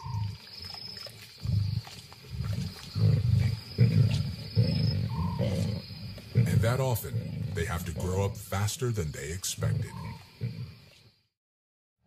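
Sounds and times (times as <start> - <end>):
lions growling: 0.0 - 11.2.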